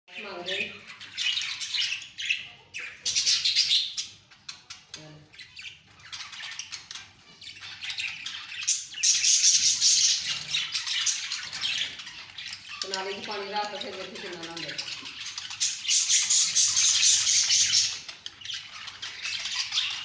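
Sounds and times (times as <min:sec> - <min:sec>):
budgerigars chirping: 0:00.1 - 0:20.0.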